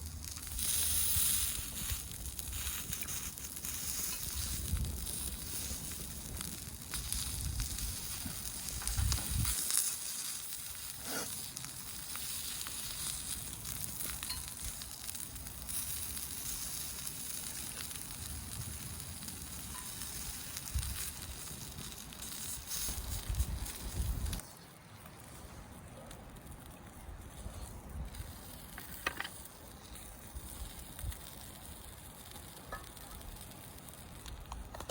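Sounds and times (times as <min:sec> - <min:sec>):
campfire crackles: 0:00.0 - 0:34.9
sausages sizzling on a grill: 0:00.0 - 0:34.9.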